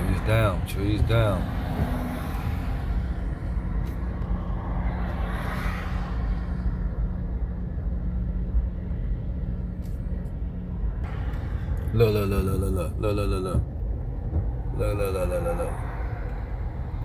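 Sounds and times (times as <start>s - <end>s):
tyre and engine rumble: 0.0s - 17.0s.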